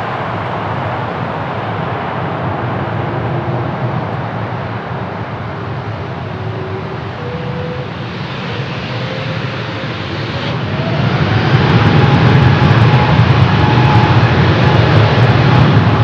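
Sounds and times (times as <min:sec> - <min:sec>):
jet engines spooling up: 0:03.0 - 0:16.0.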